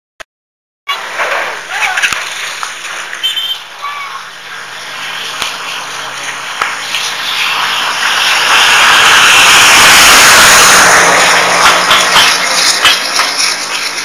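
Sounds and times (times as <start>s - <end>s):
diesel locomotive passing: 0.9s - 14.0s.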